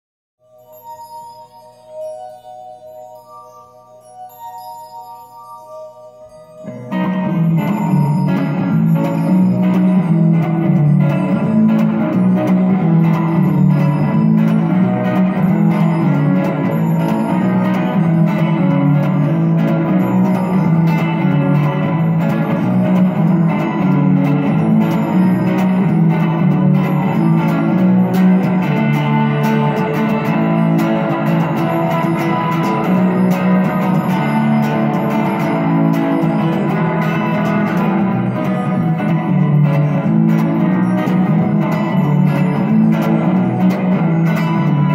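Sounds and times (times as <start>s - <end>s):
twinkly keyboard atmosphere: 0.4s - 44.9s
guitar with heavy echo: 6.2s - 44.9s.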